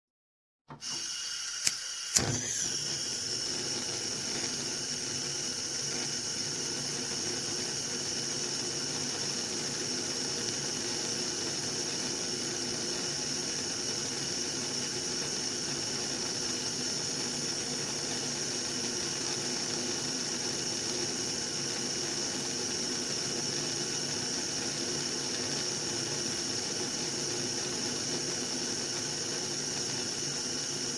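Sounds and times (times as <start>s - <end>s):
hob hissing: 0.7s - 30.9s.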